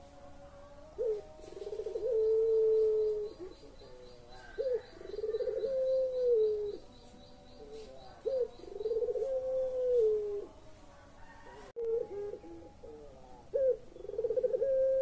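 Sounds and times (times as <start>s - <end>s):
dove cooing: 0.0s - 10.6s, 11.2s - 15.0s.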